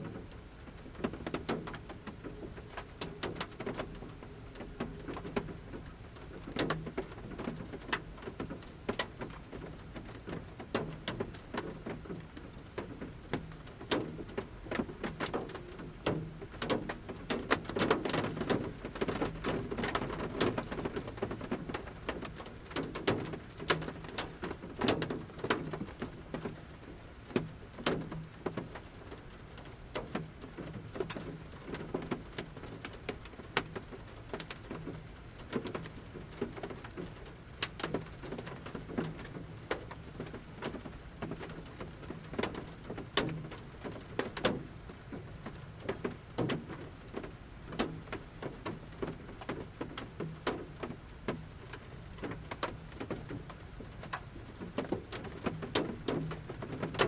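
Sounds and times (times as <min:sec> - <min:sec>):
light steady rain: 0:00.0 - 0:57.0
raindrops tapping on van roof: 0:00.0 - 0:57.0.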